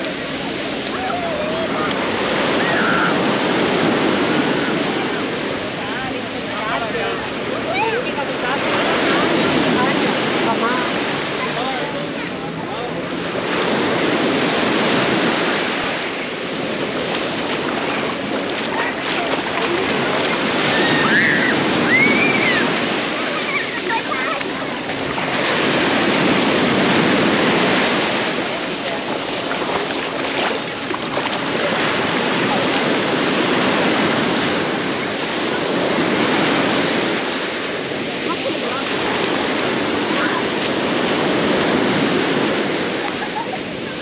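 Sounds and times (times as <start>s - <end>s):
small waves breaking on shore: 0.0s - 44.0s.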